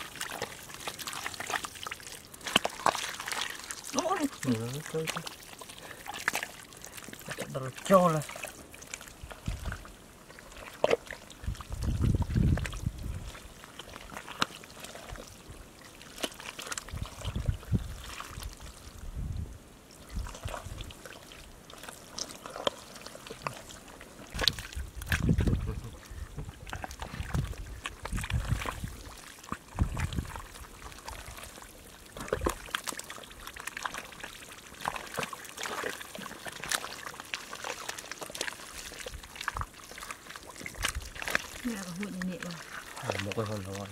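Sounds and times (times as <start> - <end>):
hands squelching in wet mud: 0.0 - 19.1, 19.8 - 43.9.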